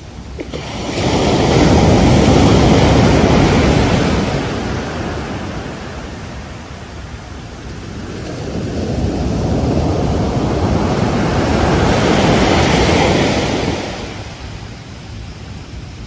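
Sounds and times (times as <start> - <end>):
ocean wave breaking: 0.0 - 14.8.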